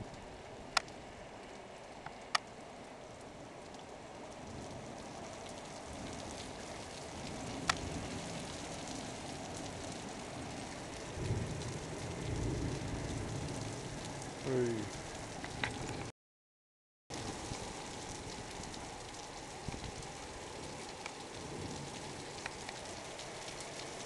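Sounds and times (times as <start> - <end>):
steady rain on rooftops: 0.0 - 16.1, 17.1 - 24.0
low thunder rumbles: 3.0 - 16.1, 17.1 - 24.0.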